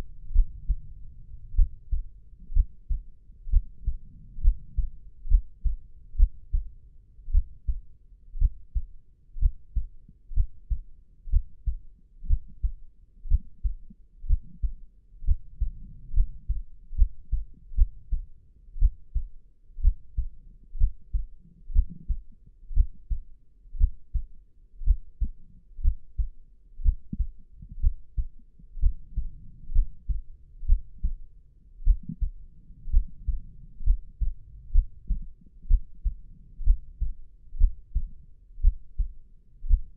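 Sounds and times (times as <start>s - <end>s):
heartbeat double thumps: 0.0s - 39.9s.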